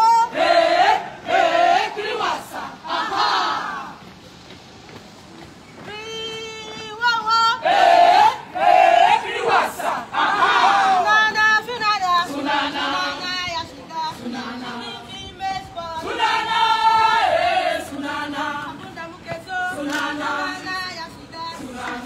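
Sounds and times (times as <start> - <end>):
people singing marching song: 0.0 - 22.0.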